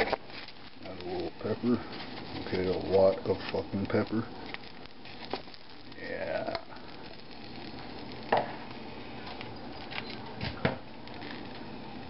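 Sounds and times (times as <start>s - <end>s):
egg sizzling in a pan: 0.0s - 12.0s.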